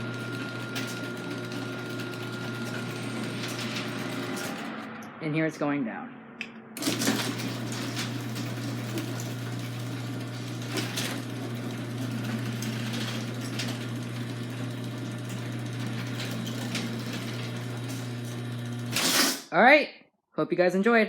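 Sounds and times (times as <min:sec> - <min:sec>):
garage door motor hum: 0:00.0 - 0:05.1, 0:06.8 - 0:19.4.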